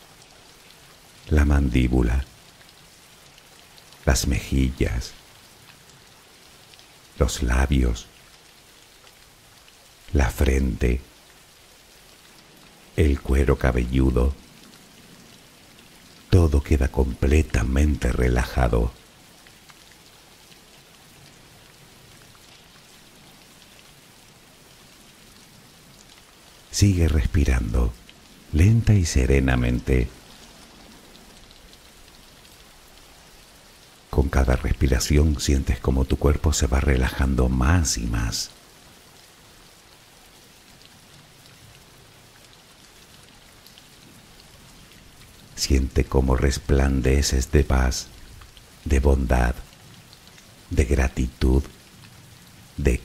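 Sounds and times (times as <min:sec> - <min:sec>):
patter of raindrops: 0:00.0 - 0:53.0
soft rain: 0:00.0 - 0:53.0.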